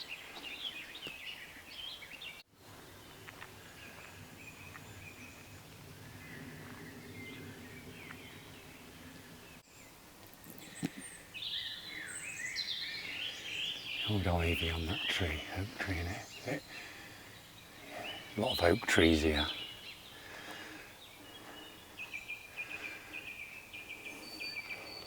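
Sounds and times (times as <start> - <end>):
faint woodland birdsong: 0.0 - 25.0
outdoor background noise: 0.0 - 25.0.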